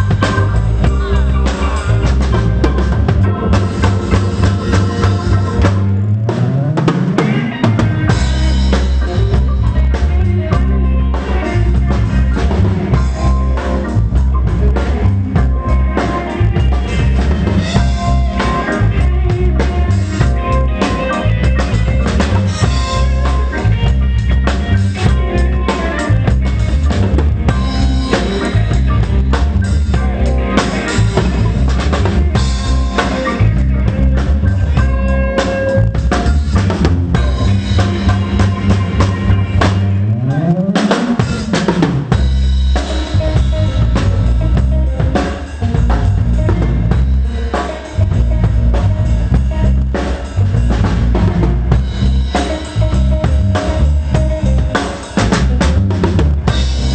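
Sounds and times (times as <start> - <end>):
drum kit: 0.0 - 56.9
live pop band playing: 0.0 - 56.9
rising bass slide: 0.0 - 56.9.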